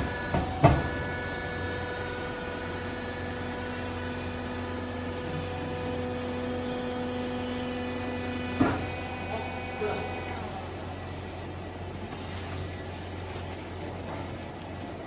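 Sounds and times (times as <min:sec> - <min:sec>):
hydraulic baler motor humming: 0:00.0 - 0:15.0.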